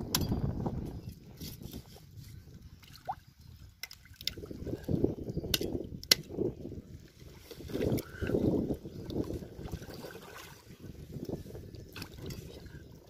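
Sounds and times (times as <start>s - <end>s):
shallow water: 0.1s - 13.0s.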